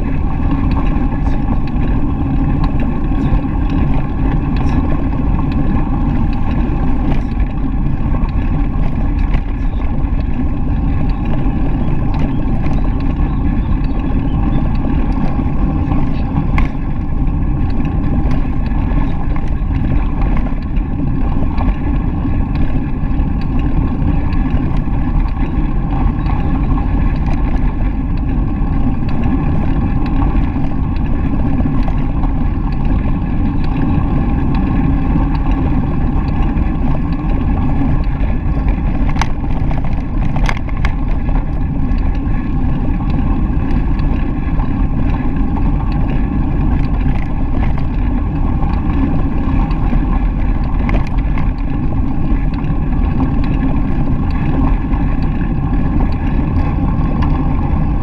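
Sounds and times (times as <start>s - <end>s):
bicycle tyres rolling on gravel: 0.0s - 58.0s
wind buffeting microphone: 0.0s - 58.0s.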